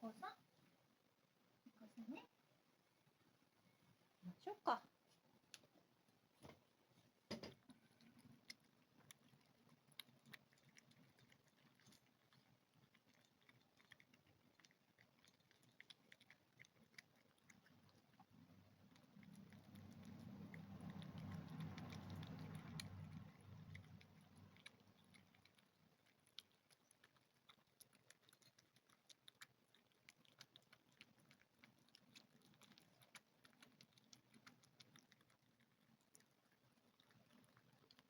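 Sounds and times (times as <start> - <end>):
cat crunching dry food: 7.3 - 38.0.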